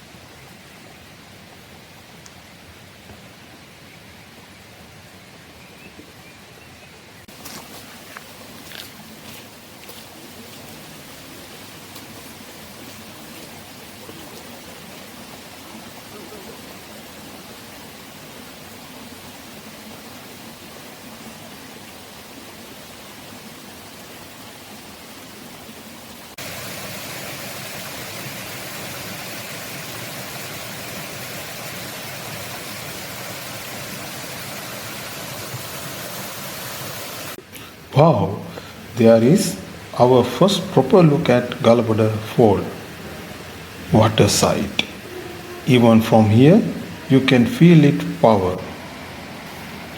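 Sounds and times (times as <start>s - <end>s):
waterfall rushing: 7.4s - 49.9s.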